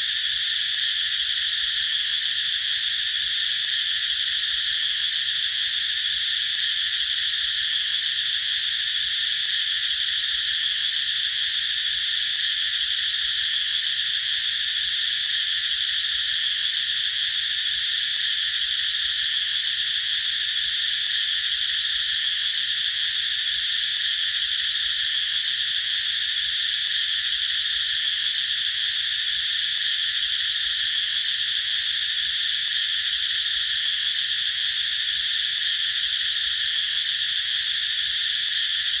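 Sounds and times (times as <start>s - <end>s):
cicadas buzzing: 0.0s - 39.0s.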